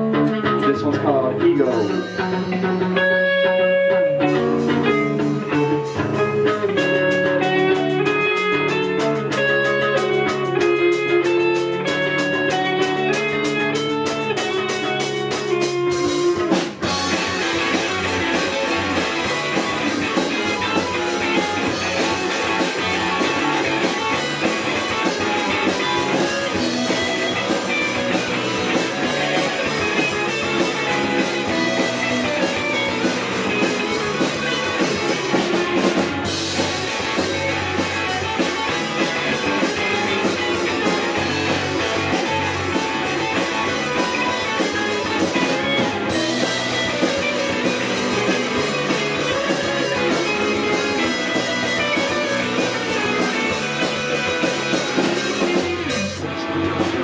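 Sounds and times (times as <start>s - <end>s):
drums: 0.0s - 57.0s
live rock band playing: 0.0s - 57.0s
picked guitar notes: 0.0s - 57.0s.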